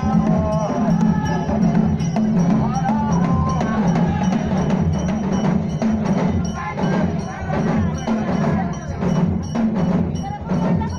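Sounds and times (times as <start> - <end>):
music with steady percussion beat: 0.0 - 10.9
voices singing: 0.0 - 10.9.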